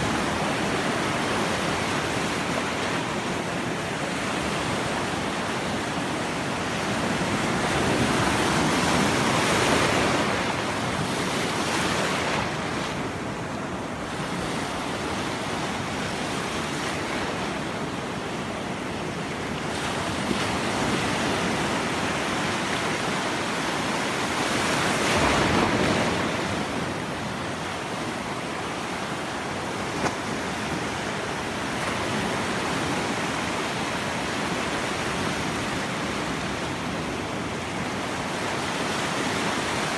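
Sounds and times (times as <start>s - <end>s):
sea surf washing on shore: 0.0s - 39.9s.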